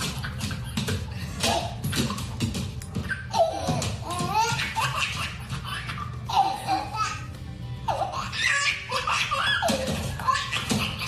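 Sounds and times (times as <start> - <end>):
background music: 0.0 - 11.0
toddler laughing: 0.0 - 11.0.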